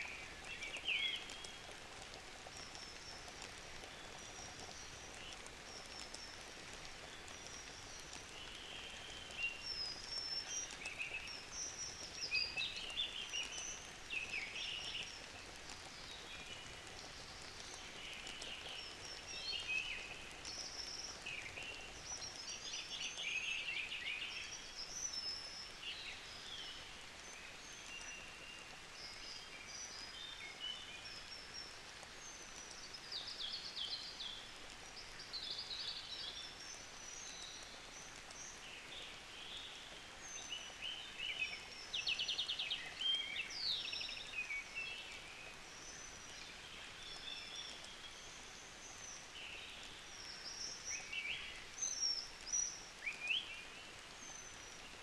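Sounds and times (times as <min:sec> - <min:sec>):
faint steady hiss: 0:00.0 - 0:55.0.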